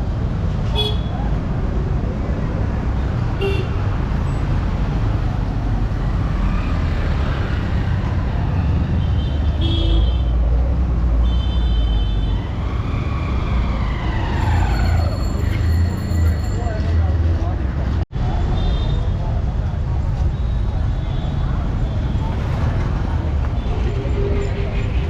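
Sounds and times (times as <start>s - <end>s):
traffic engine rumble: 0.0s - 25.0s.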